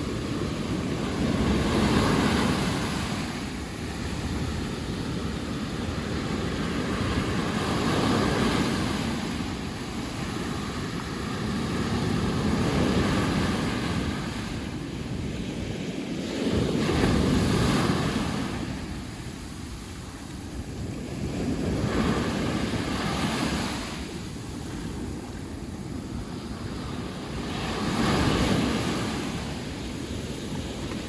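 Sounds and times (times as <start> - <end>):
waves breaking on beach: 0.0 - 31.0
wind buffeting microphone: 0.0 - 31.0.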